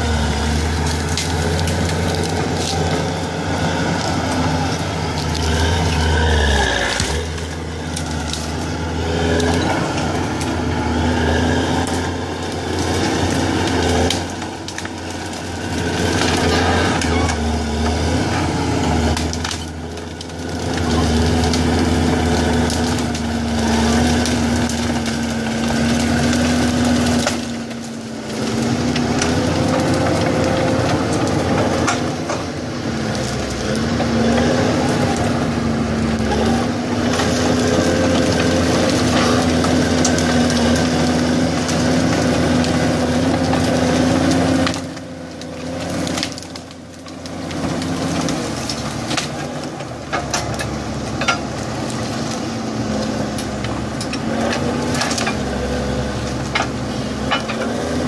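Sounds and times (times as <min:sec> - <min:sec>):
dozer diesel engine under load: 0:00.0 - 0:58.0
wood cracking and snapping: 0:00.0 - 0:58.0.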